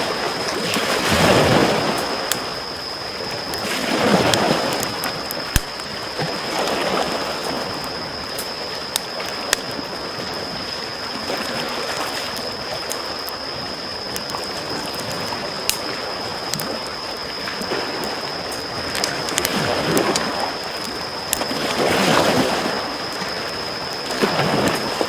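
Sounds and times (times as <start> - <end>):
wood fire crackling and popping: 0.1 - 10.4, 11.3 - 25.0.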